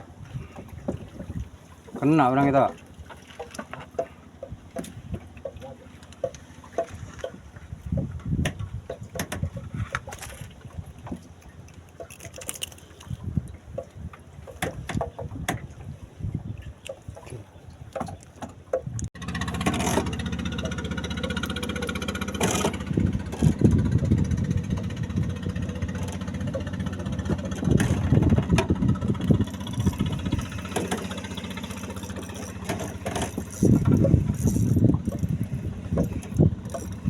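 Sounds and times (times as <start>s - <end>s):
boat engine droning: 0.0s - 37.0s
water: 0.0s - 37.0s
wind: 0.0s - 37.0s.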